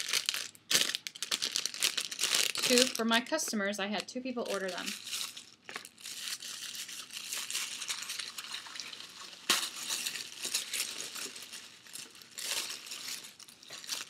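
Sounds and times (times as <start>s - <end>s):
packaging crinkling: 0.0s - 14.0s.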